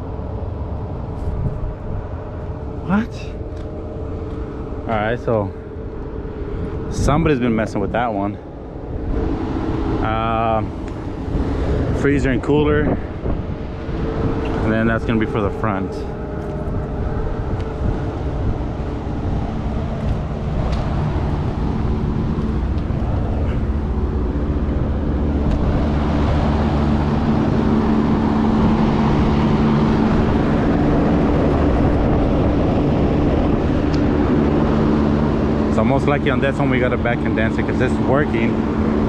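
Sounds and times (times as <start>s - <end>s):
condensing unit humming: 0.0s - 39.0s
fan rushing: 0.0s - 39.0s.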